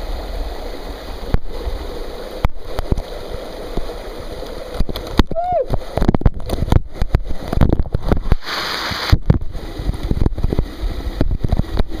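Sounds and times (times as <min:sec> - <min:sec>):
waterfall splashing: 0:00.0 - 0:12.0.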